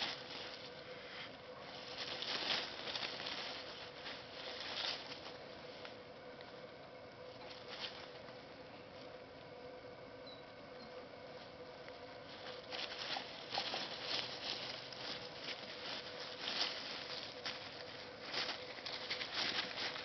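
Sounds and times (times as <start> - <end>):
dry leaves rustling and crunching: 0.0 - 6.0, 7.2 - 9.2, 11.3 - 20.0.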